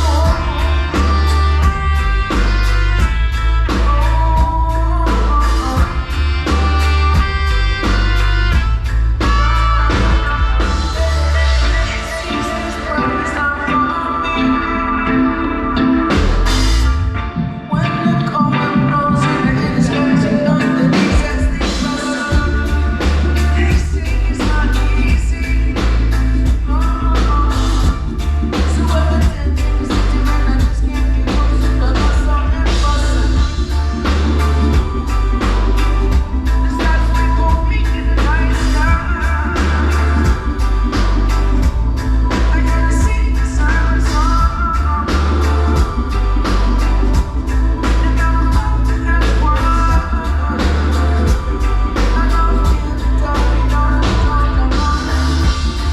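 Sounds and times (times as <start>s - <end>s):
drum kit beat: 0.0s - 13.8s, 16.0s - 55.9s
guitar: 0.0s - 55.9s
heavy bass line: 0.0s - 55.9s
person singing: 0.0s - 55.9s
reggae band playing live: 0.0s - 55.9s.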